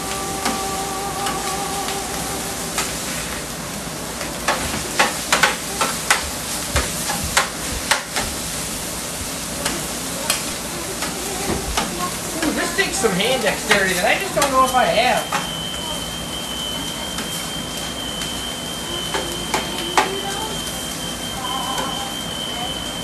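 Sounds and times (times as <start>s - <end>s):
food sizzling on griddle: 0.0s - 23.0s.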